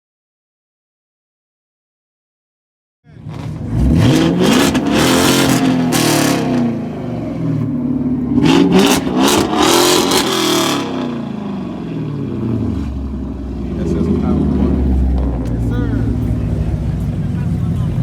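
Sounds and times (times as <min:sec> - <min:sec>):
car engine revving: 0:03.1 - 0:18.0.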